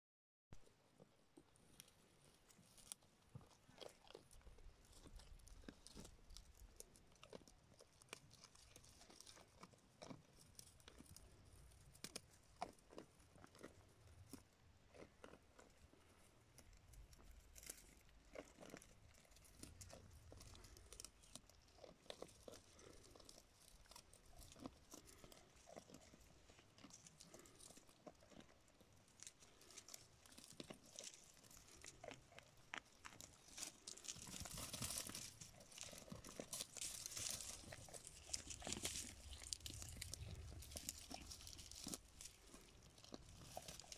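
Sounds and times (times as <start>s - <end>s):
goats chewing dry twigs: 0.7s - 43.9s.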